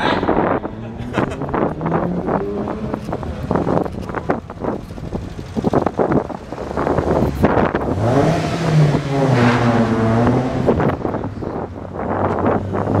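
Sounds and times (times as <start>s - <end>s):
car engine revving in tunnel: 0.0s - 13.0s.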